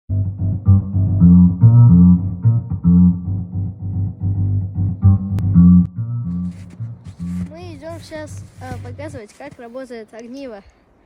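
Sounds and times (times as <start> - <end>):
bass line: 0.1 - 9.2
plucked guitar music: 0.1 - 9.2.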